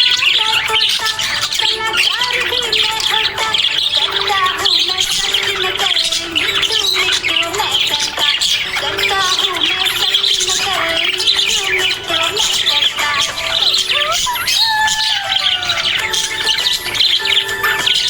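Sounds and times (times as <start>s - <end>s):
budgerigars chirping and warbling: 0.0s - 18.0s.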